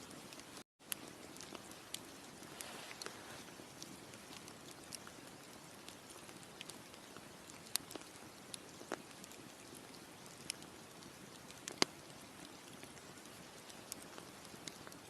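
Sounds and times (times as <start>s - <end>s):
campfire crackling and popping: 0.1s - 15.0s.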